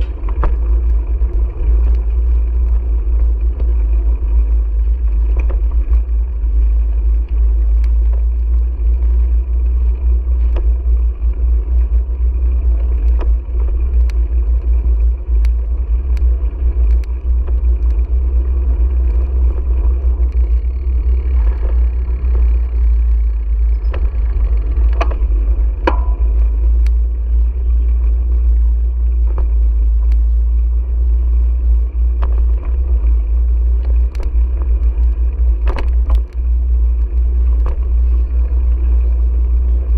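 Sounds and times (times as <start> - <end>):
sharp clicks and rattles: 0.0 - 39.9
wind and road rumble: 0.0 - 39.9.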